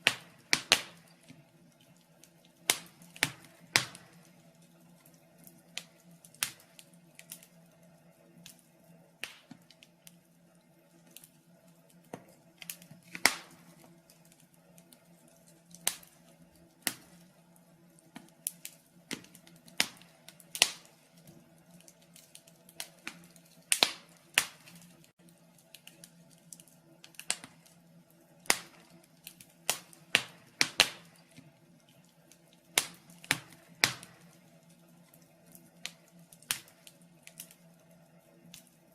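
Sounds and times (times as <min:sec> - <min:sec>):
faint steady hum: 0:00.0 - 0:38.9
wood fire crackling and popping: 0:00.0 - 0:38.9.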